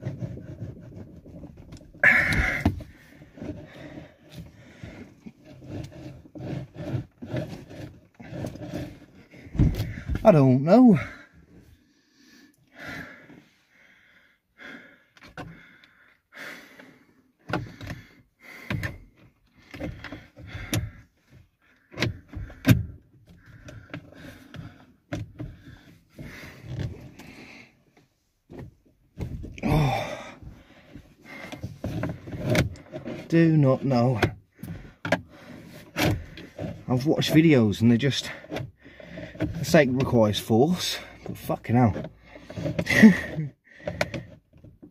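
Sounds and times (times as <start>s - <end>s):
plastic scraping: 0.0s - 11.8s, 16.7s - 44.9s.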